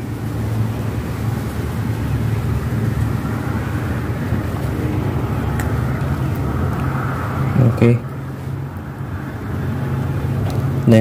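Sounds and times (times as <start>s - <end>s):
low mechanical rumble with hiss: 0.0s - 11.0s.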